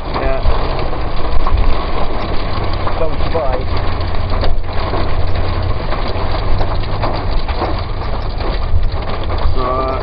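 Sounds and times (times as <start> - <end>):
car engine rumble: 0.0 - 10.0
rain tapping on a car: 0.0 - 10.0
road noise: 0.0 - 10.0.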